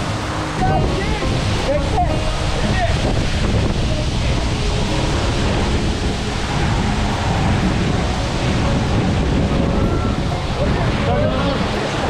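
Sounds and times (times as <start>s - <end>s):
waterfall rushing: 0.0s - 12.0s
wind rumble on microphone: 0.0s - 12.0s.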